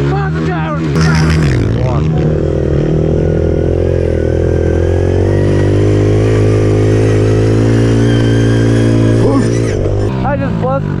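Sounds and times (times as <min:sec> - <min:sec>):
pit bike engine running: 0:00.0 - 0:11.0.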